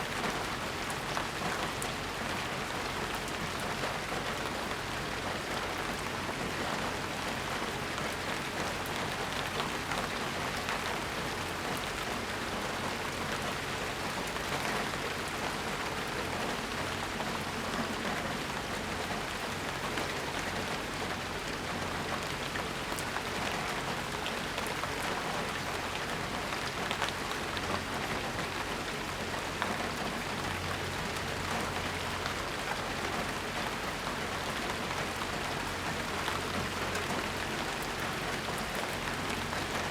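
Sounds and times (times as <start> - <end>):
steady rain falling: 0.0 - 39.9
raindrops ticking on hard surfaces: 0.1 - 39.9.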